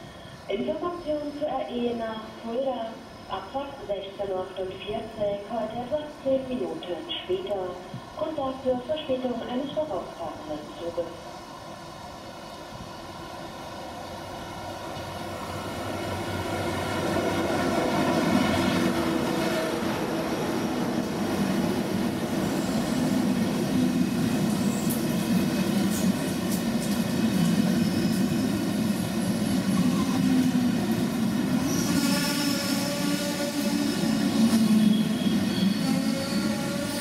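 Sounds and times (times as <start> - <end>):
high-speed train passing: 0.0 - 37.0.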